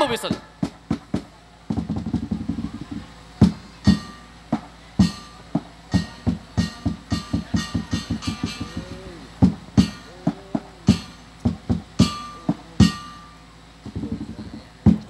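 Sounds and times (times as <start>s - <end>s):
percussion roll: 0.0s - 15.0s
percussion strikes with ringing tone: 0.2s - 15.0s.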